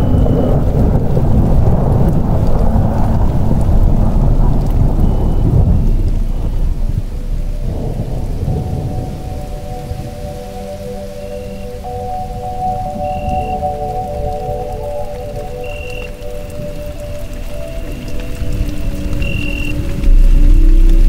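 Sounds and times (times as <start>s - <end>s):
rolling thunder: 0.0s - 21.0s
soft ambient music: 0.0s - 21.0s
steady rain: 0.0s - 21.0s.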